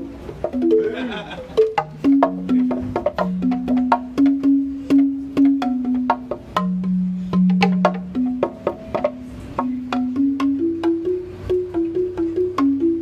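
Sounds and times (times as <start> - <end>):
bamboo xylophone notes: 0.0 - 13.0.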